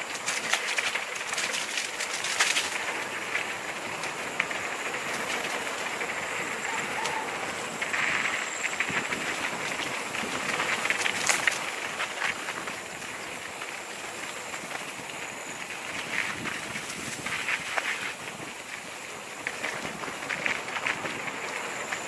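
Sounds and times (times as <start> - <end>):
bike clicking and rattling: 0.0 - 22.0
bike tyres rolling on dirt: 0.0 - 22.0.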